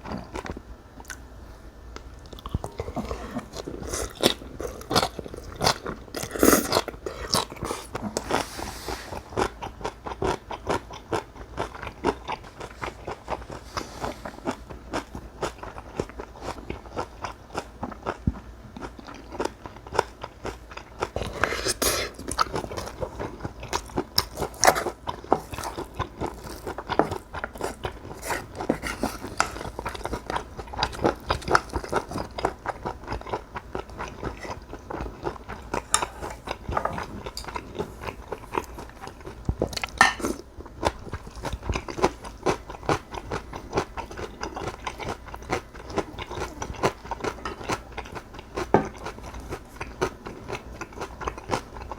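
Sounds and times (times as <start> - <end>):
chewing with wet crunches: 2.2 - 8.4, 9.3 - 13.6, 14.2 - 51.9.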